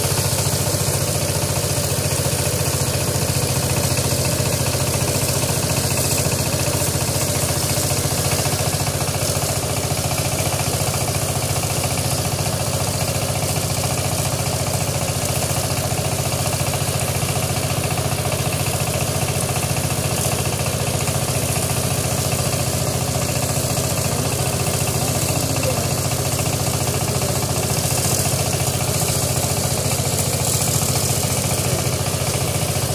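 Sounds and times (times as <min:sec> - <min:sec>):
single-cylinder diesel engine running: 0:00.0 - 0:32.9.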